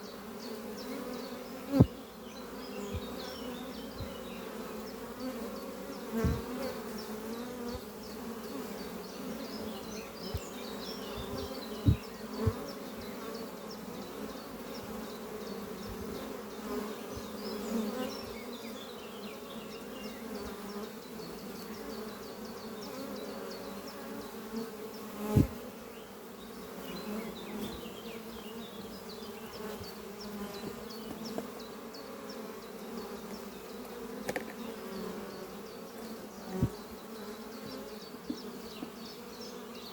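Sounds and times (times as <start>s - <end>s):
bee buzzing close by: 0.0s - 39.9s
bees buzzing: 0.0s - 39.9s.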